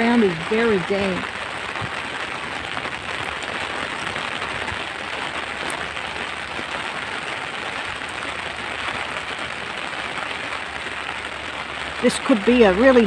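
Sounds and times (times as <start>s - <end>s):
rain pattering on umbrella: 0.0s - 13.0s.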